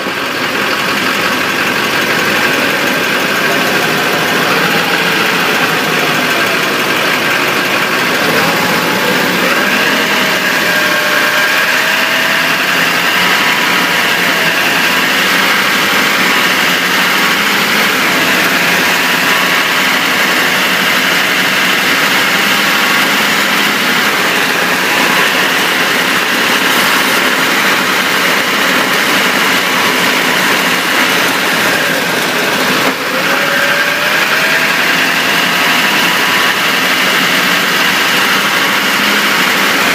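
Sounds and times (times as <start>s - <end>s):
drivetrain and road noise: 0.0s - 39.9s.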